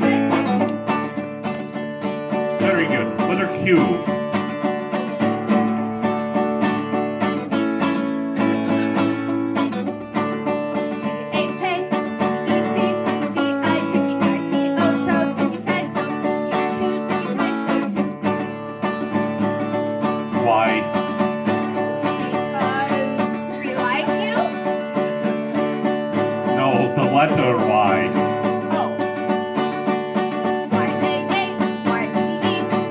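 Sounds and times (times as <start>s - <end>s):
acoustic string band music: 0.0s - 32.9s.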